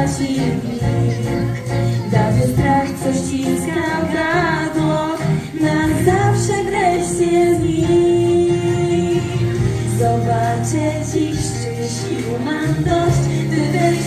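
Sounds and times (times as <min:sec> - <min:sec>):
song music: 0:00.0 - 0:14.0
woman singing: 0:00.0 - 0:14.0.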